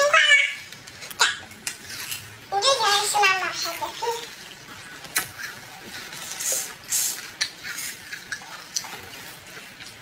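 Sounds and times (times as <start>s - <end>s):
wet sticky chewing: 0.7s - 2.5s, 3.6s - 10.0s.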